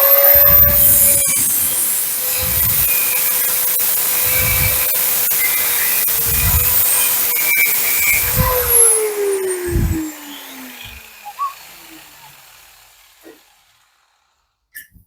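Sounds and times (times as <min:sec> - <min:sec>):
angle grinder winding down: 0:00.0 - 0:14.6.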